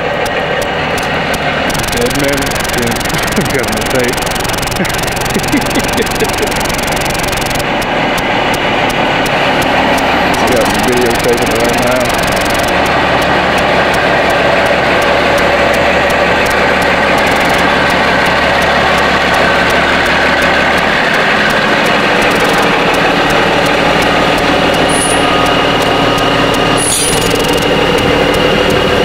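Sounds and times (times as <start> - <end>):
diesel truck engines droning: 0.0 - 29.0.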